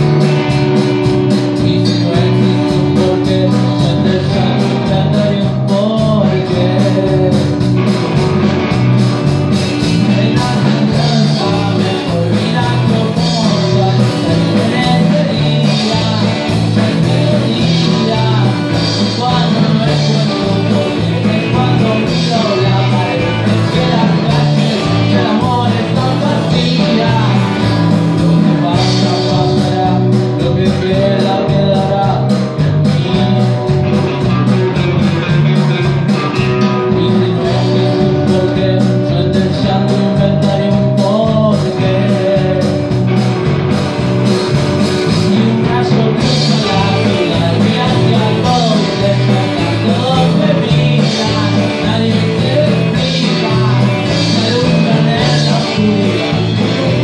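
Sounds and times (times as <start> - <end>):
man singing: 0.0 - 57.0
rock band playing: 0.0 - 57.0.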